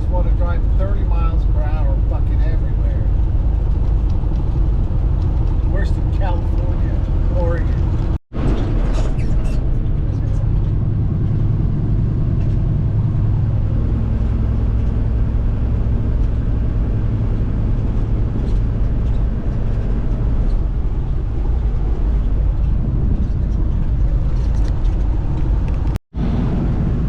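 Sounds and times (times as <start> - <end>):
road noise: 0.0 - 27.0
truck engine drone: 0.0 - 27.0.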